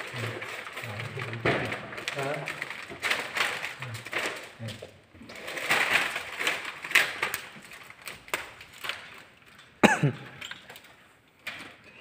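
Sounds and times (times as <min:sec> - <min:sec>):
plastic film crinkling: 0:00.0 - 0:11.9.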